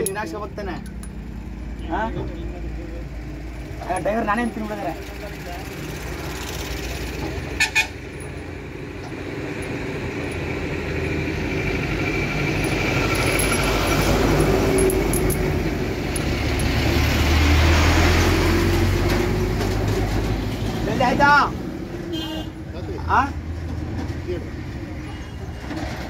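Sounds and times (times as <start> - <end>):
vehicle engine and tyre noise: 0.0 - 26.0.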